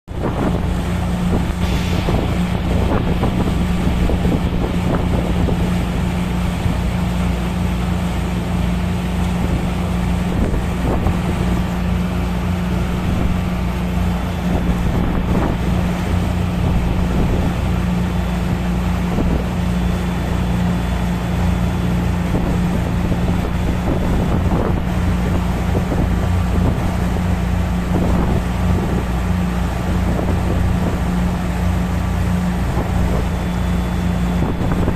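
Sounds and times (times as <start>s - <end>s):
ship engines droning: 0.0s - 34.9s
rushing noise: 0.1s - 34.9s
wind buffeting microphone: 0.1s - 34.9s.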